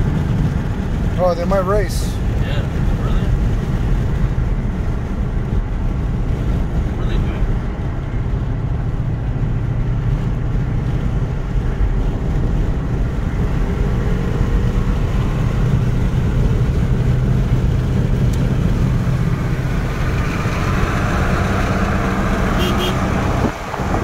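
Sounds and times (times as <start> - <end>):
car engine accelerating: 0.0 - 24.0
road and wind noise: 0.0 - 24.0.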